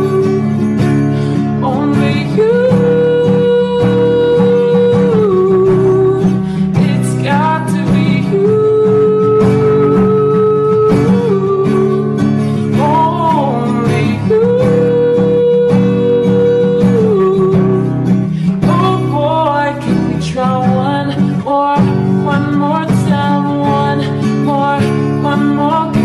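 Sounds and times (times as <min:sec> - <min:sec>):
acoustic guitar: 0:00.0 - 0:26.0
person singing: 0:00.0 - 0:26.0.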